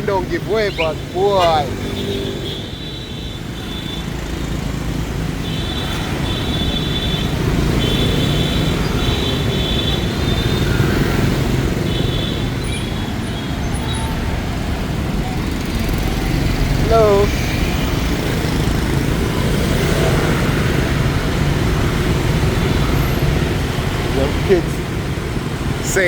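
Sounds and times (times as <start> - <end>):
traffic engine rumble: 0.0 - 26.0.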